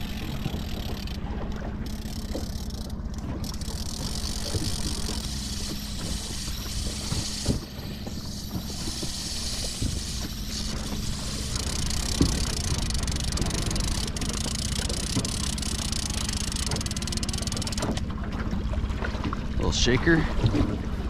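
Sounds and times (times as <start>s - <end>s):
choppy water: 0.0s - 21.0s
outboard motor running: 0.0s - 21.0s
wind: 0.0s - 21.0s.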